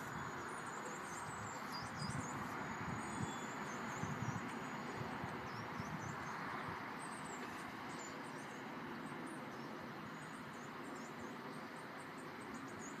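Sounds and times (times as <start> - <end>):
distant road traffic hum: 0.0 - 13.0
small birds chirping: 0.0 - 13.0.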